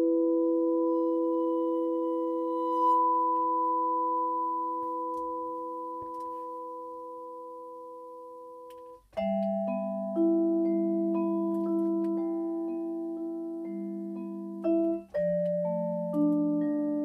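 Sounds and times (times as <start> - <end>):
vibraphone chords: 0.0 - 17.0.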